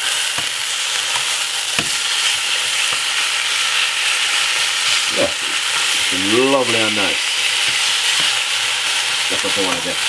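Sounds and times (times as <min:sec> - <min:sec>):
meat sizzling in a saucepan: 0:00.0 - 0:10.0.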